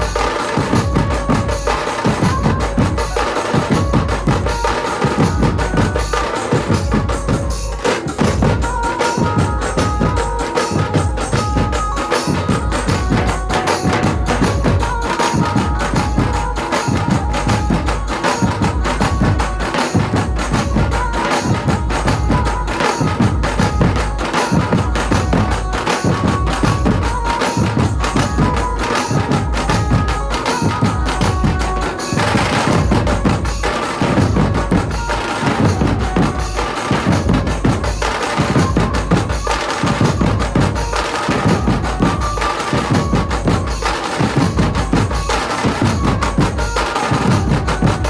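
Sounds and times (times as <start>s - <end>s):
drums beaten with sticks: 0.0s - 48.0s.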